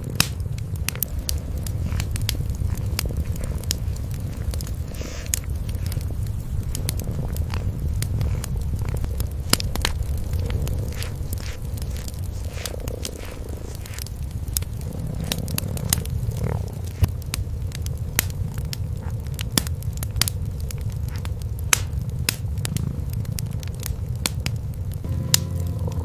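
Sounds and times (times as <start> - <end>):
cats purring: 0.0 - 26.0
wood fire crackling: 0.0 - 26.0.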